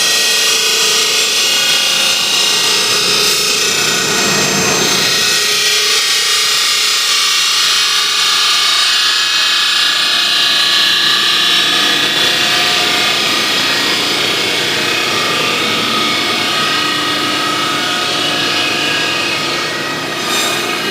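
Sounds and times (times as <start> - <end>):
router spindle whine with grinding: 0.0 - 20.9.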